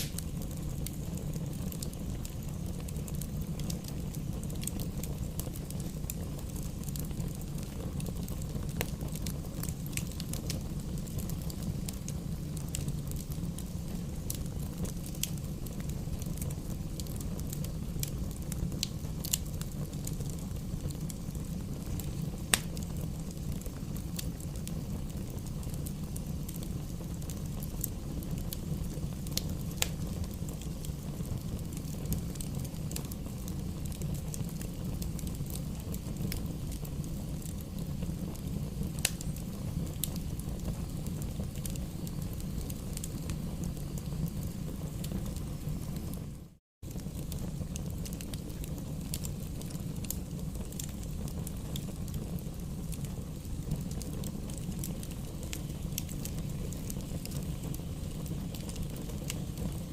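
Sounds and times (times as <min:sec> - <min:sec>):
burning wood popping and crackling: 0:00.0 - 0:46.2, 0:46.8 - 0:59.9
low rush of flame: 0:00.0 - 0:59.9.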